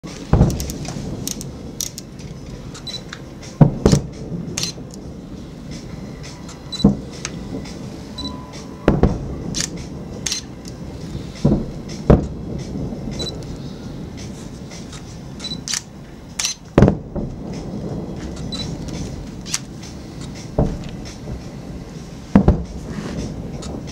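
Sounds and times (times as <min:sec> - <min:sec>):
firework pops and crackles: 0:00.1 - 0:07.9, 0:08.8 - 0:23.9
firework shells bursting: 0:00.1 - 0:23.9.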